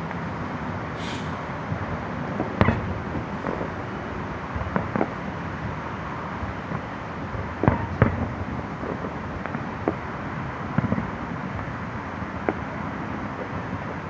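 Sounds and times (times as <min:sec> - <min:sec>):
city noise: 0:00.0 - 0:14.0
distant fireworks bangs: 0:01.0 - 0:05.8, 0:06.4 - 0:14.0.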